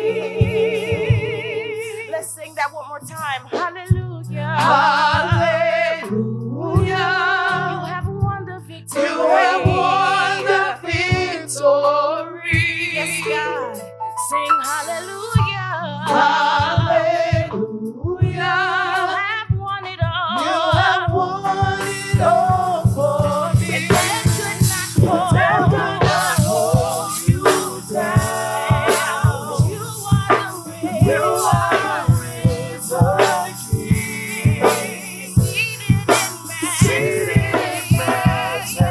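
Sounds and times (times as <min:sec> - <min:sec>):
drum kit and cymbals: 0:00.0 - 0:06.2, 0:06.8 - 0:38.9
singers with vibrato: 0:00.0 - 0:38.9.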